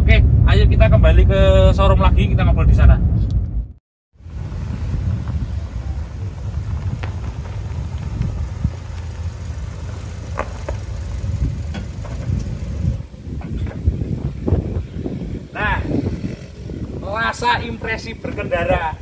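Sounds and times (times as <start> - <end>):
car road and engine rumble: 0.0 - 19.0
wind buffeting: 0.0 - 19.0.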